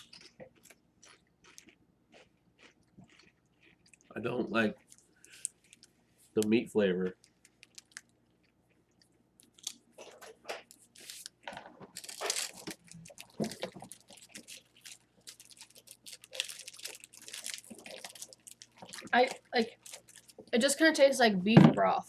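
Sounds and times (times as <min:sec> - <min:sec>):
chips crunching in mouth: 0:00.0 - 0:05.9, 0:07.2 - 0:20.6.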